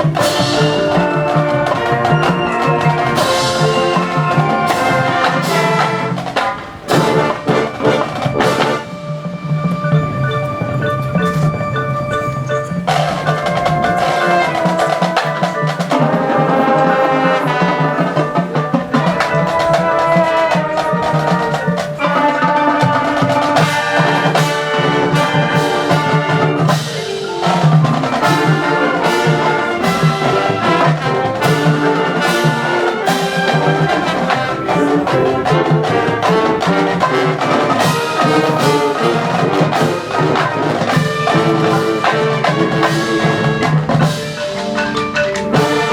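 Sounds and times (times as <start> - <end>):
brass sustaining chords: 0.0 - 45.9
drums: 0.0 - 45.9
mallet percussion: 0.0 - 45.9.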